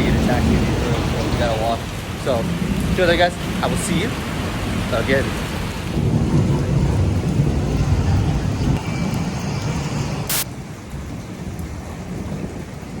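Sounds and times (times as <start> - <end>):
low thunder rumble: 0.0 - 13.0
steady wash of rain noise: 0.0 - 13.0.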